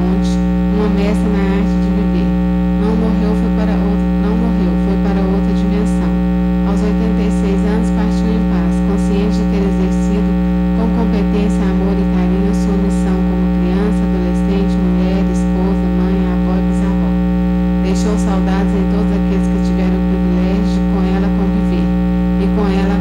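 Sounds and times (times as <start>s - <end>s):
loud electrical mains hum: 0.0s - 23.0s.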